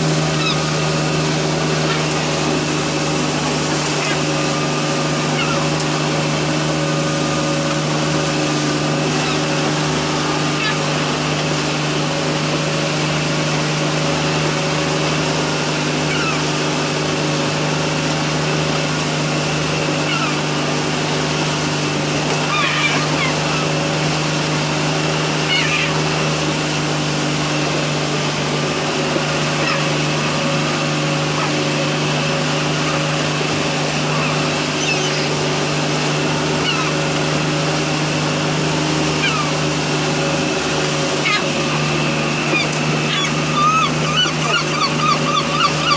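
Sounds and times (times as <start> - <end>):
motorboat engine droning: 0.0 - 45.9
wind: 0.0 - 45.9
gull crying: 0.2 - 17.3, 19.4 - 45.9.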